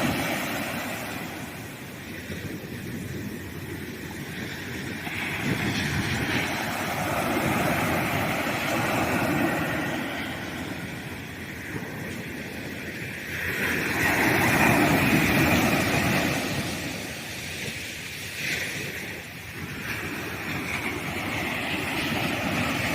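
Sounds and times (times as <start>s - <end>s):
sea waves breaking on beach: 0.0s - 22.9s.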